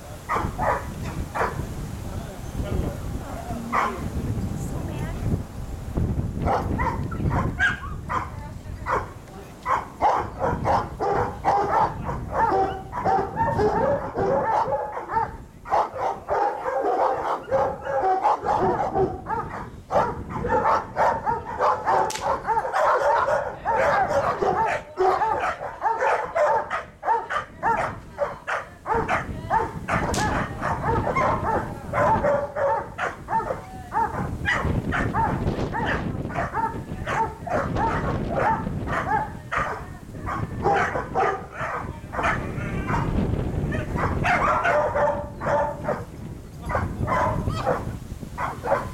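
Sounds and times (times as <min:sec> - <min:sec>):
dogs barking: 0:00.2 - 0:01.7, 0:03.1 - 0:04.1, 0:06.4 - 0:48.9.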